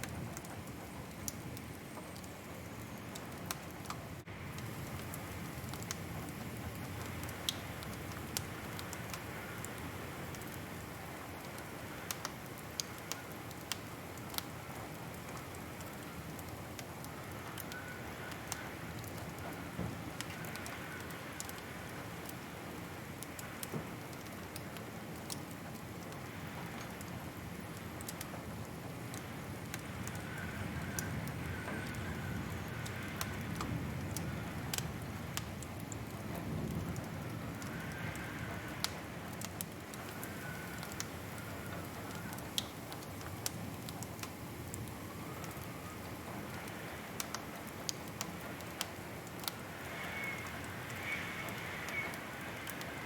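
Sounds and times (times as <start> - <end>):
low hiss of burning fire: 0.0 - 53.0
wood fire crackling: 0.0 - 53.0.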